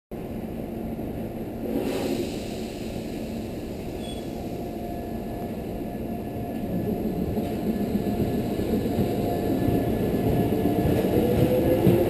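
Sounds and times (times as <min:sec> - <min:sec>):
train motors and wheels rumbling: 0:00.2 - 0:12.0.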